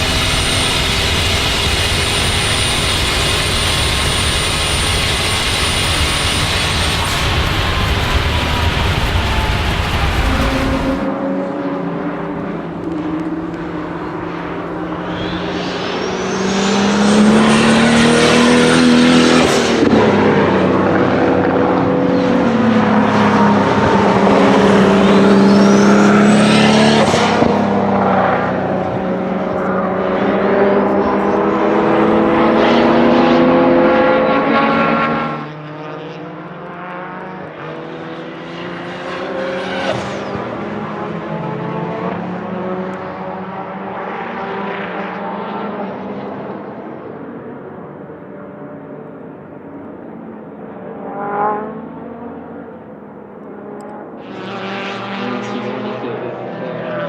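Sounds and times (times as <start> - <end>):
car engine revving: 0.0 - 46.8, 53.5 - 57.0.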